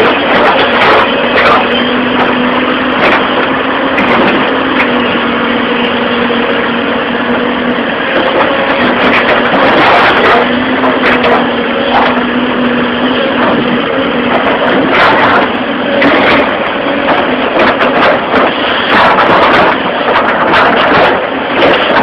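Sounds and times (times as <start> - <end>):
construction machine engine humming: 0.0 - 22.0.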